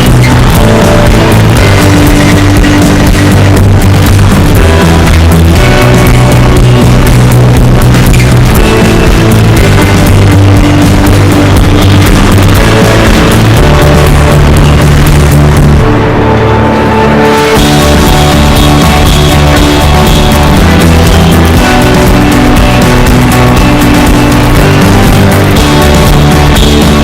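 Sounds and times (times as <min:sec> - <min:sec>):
rock music with guitar and drums: 0:00.0 - 0:27.0.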